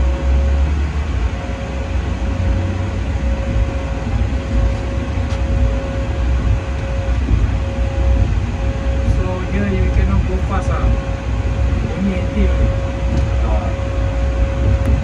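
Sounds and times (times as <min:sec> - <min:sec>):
locomotive rumble: 0:00.0 - 0:15.0
locomotive whine: 0:00.0 - 0:15.0.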